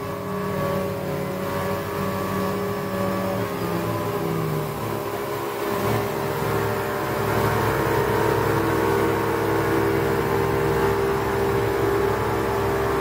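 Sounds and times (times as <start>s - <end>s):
speedboat engine droning: 0.0s - 13.0s
water rushing from wake: 0.0s - 13.0s.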